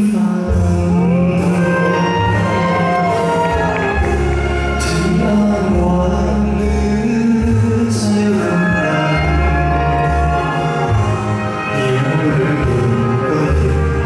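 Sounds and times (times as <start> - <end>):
backing music: 0.0 - 14.0
man singing with vibrato: 0.0 - 14.0.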